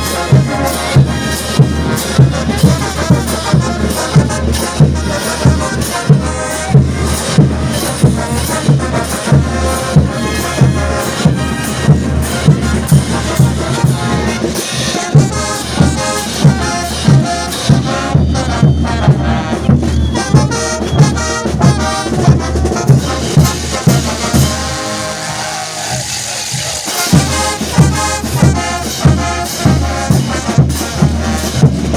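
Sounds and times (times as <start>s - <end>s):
bass drum beat: 0.0s - 24.9s, 26.6s - 31.9s
trumpets and trombones: 0.0s - 31.9s.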